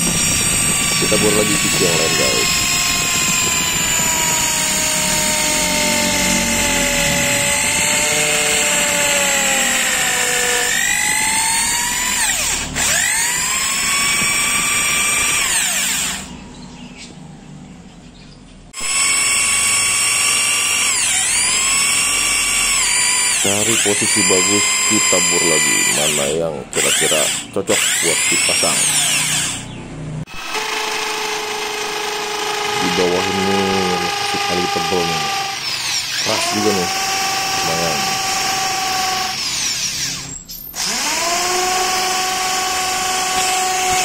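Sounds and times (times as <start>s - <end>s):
electric drill boring wood: 0.0s - 16.4s, 18.8s - 44.0s.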